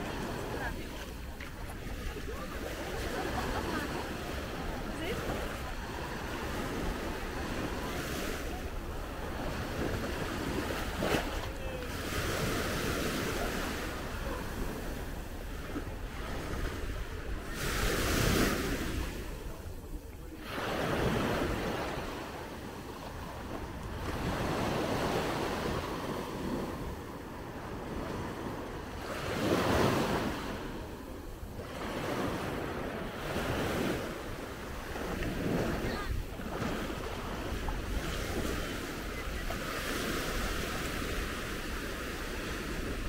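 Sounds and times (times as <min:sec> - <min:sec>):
waves washing onto beach: 0:00.0 - 0:43.0.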